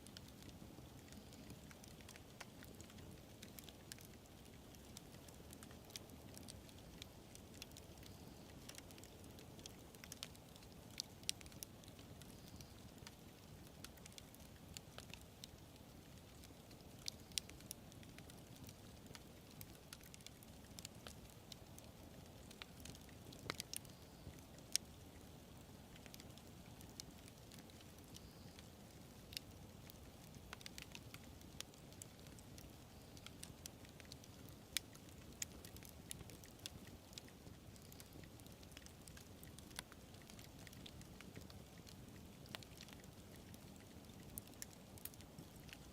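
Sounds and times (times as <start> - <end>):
campfire crackling and popping: 0.0 - 45.9
faint hiss of flames: 0.0 - 45.9.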